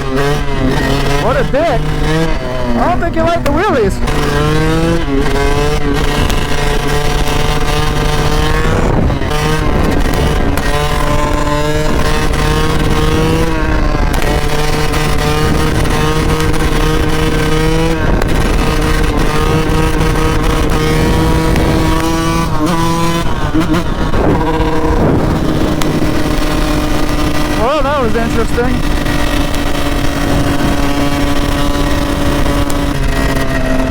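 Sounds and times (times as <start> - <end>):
motorcycle engine running: 0.0 - 33.9
wind rumble on microphone: 0.0 - 33.9.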